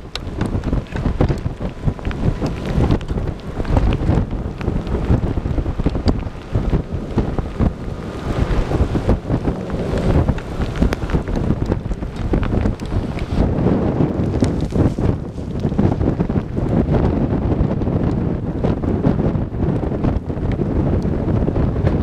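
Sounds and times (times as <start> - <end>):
crackles and pops: 0.0 - 22.0
wind buffeting microphone: 0.0 - 22.0.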